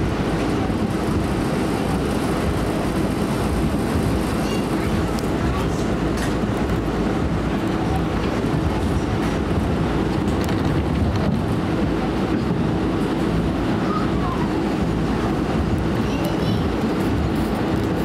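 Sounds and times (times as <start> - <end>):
subway wheels rumbling on rail: 0.0 - 18.0.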